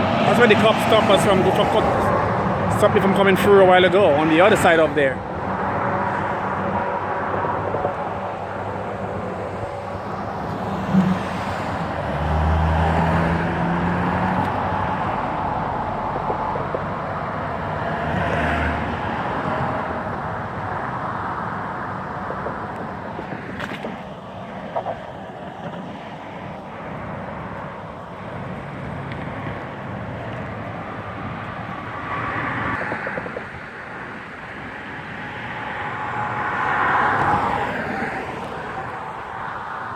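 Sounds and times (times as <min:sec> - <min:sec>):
road traffic noise: 0:00.0 - 0:39.9
vehicle engine hum: 0:00.0 - 0:39.9.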